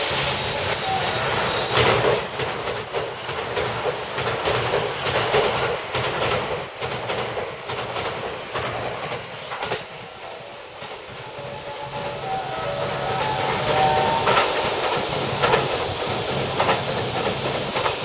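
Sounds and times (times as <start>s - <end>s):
electric train running: 0.0s - 18.0s.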